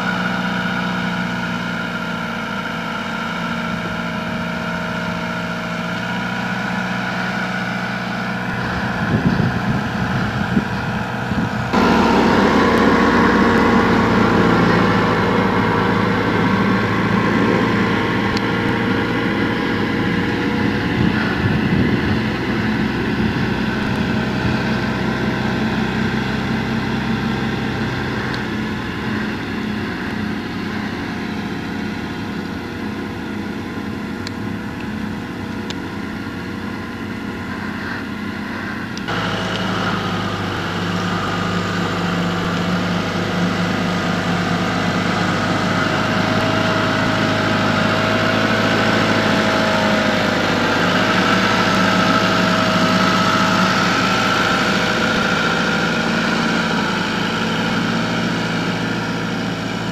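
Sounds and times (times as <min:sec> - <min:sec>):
steady wavering whine: 0:00.0 - 0:59.9
transporter engine running: 0:00.0 - 0:59.9.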